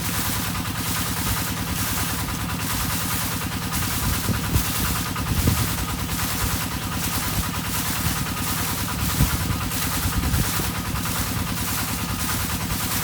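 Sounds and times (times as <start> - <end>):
water pump engine running: 0.0 - 13.0.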